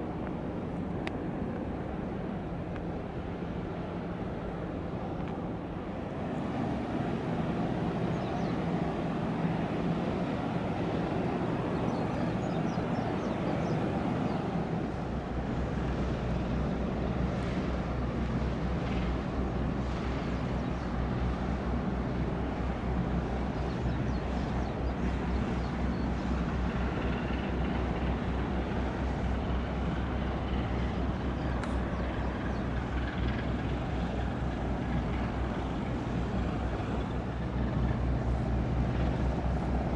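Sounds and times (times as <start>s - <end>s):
engine drone: 0.0s - 39.9s.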